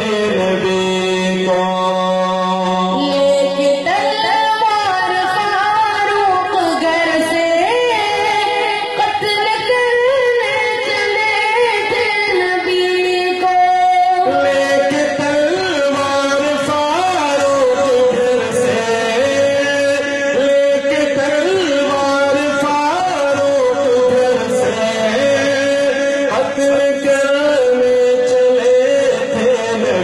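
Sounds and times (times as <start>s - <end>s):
boy singing: 0.0s - 30.0s
man singing: 0.0s - 30.0s.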